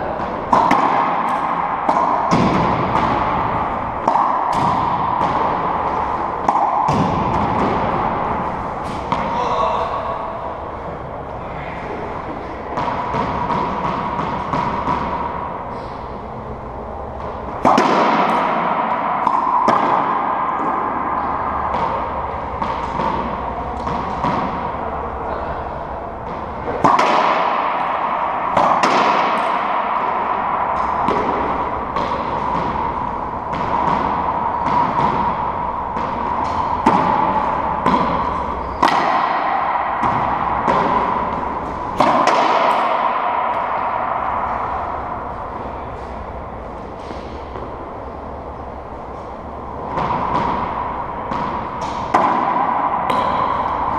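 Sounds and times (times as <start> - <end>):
racquetball hits echoing: 0.0 - 53.9
steady hum: 0.0 - 53.9.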